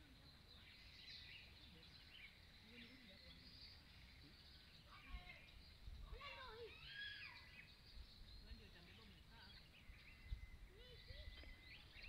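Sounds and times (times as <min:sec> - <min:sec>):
faint distant voices: 0:00.0 - 0:12.0
faint high bird chirps: 0:00.0 - 0:12.0.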